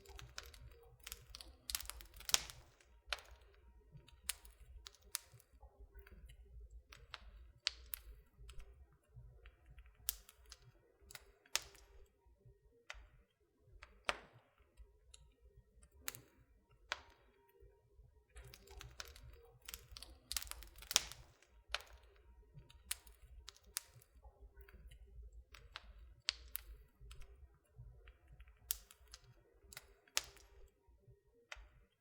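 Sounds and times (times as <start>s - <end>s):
wood fire crackling and popping: 0.0s - 12.2s, 12.9s - 17.4s, 18.2s - 30.8s, 31.6s - 31.9s.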